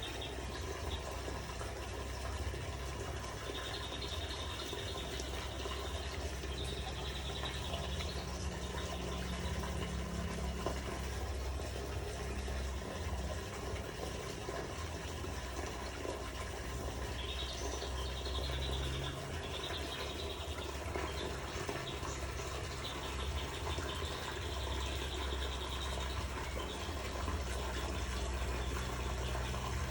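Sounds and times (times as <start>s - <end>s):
running water: 0.0s - 29.9s.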